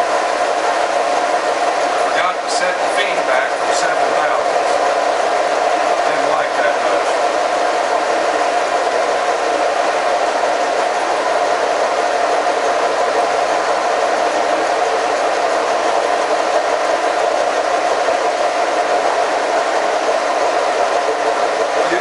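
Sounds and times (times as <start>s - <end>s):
boring mill whirring: 0.0s - 22.0s.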